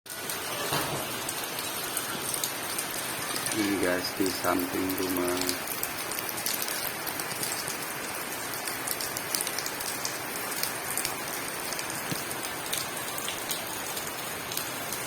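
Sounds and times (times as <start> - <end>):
rain pattering on surfaces: 0.1 - 15.0.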